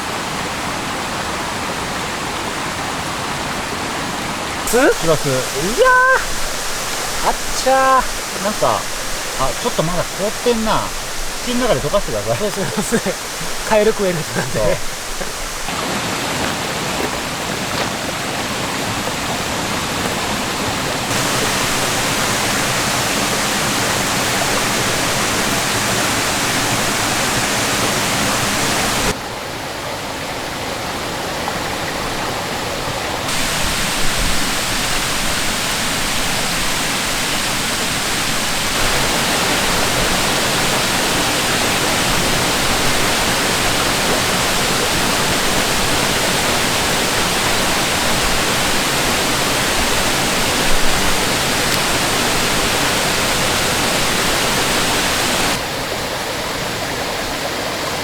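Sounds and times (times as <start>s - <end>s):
creek water running: 0.0s - 58.0s.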